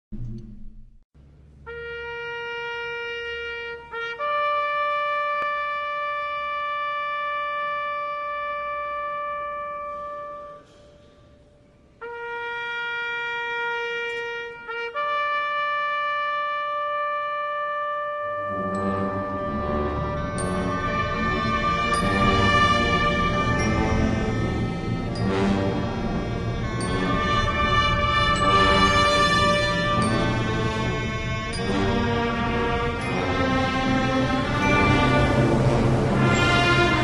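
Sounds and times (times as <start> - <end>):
brass instrument long notes: 1.6 - 37.0.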